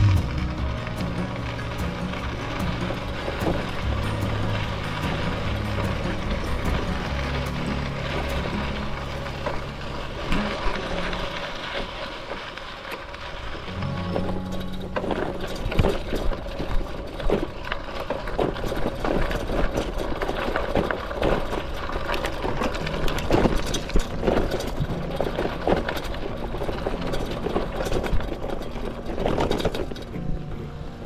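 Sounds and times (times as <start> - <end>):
bicycle knocks and rattles: 0.0 - 31.0
bicycle tyres rolling on dirt: 0.0 - 31.0.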